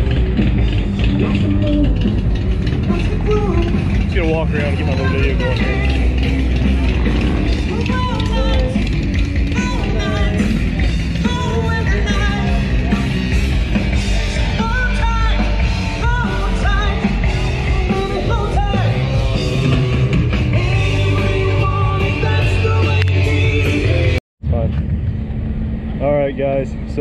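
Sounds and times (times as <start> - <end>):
rock band playing: 0.0 - 24.2.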